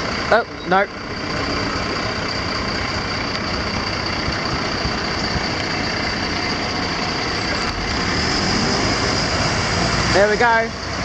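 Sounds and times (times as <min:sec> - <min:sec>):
crossing alarm tone: 0:00.0 - 0:11.0
train wheels on track: 0:00.0 - 0:11.0.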